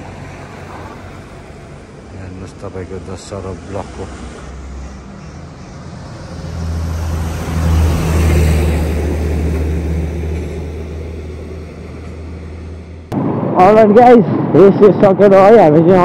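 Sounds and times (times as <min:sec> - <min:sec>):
road hiss: 0:00.0 - 0:13.1
vehicle engine drone: 0:00.0 - 0:16.0.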